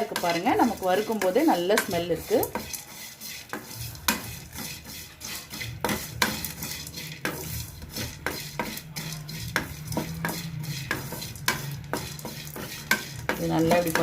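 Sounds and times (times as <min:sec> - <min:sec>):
utensil scraping a pan: 0:00.0 - 0:14.0.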